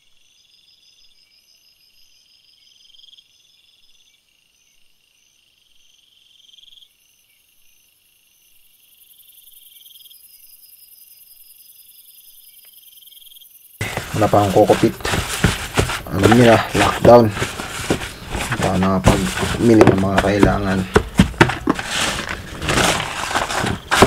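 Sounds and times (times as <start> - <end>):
crickets chirping: 0.2 - 24.0.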